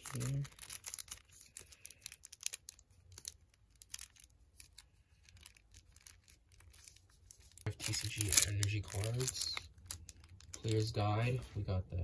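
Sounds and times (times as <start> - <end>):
plastic wrapper crinkling: 0.0 - 11.6.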